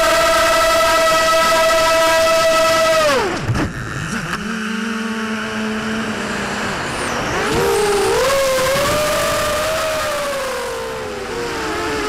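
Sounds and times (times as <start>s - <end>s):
drone motors and propellers whining: 0.0s - 12.0s.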